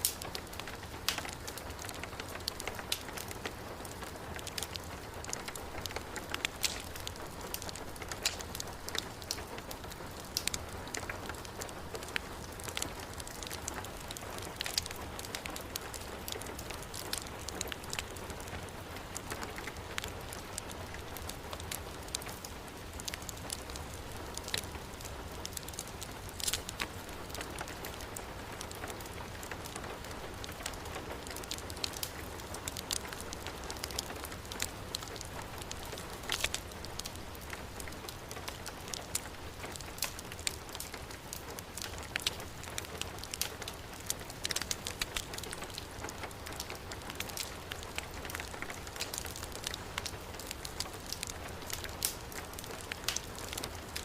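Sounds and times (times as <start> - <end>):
heavy rain falling: 0.0 - 54.0
wood fire crackling: 0.0 - 54.0.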